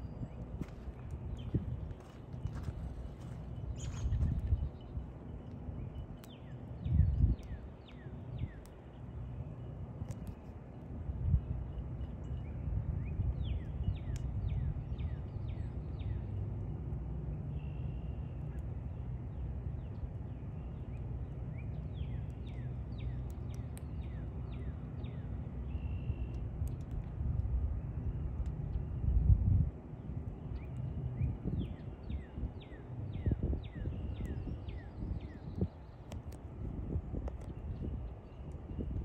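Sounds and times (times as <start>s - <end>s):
wind rumble on microphone: 0.0s - 39.0s.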